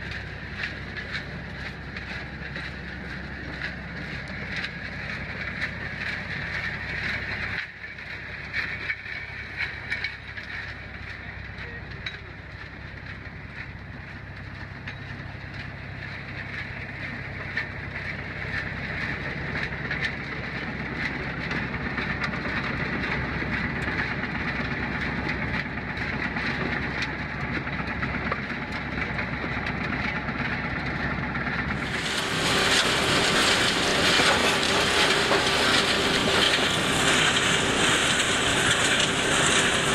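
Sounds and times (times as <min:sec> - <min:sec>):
screening machine rumbling: 0:00.0 - 0:39.9.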